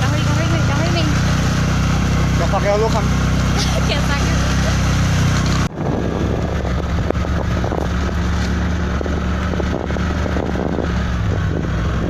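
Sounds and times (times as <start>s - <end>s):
road and wind noise: 0.0s - 12.0s
vehicle engine drone: 0.0s - 12.0s.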